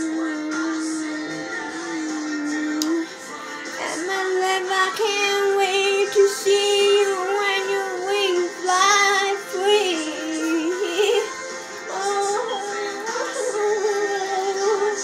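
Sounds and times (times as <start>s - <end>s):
woman singing slow melody: 0.0s - 15.0s.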